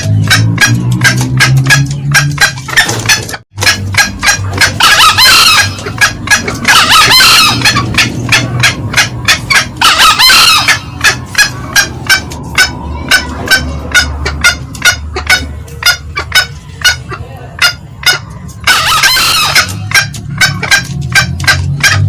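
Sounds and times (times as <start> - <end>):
junglefowl cackling: 0.0 - 22.0.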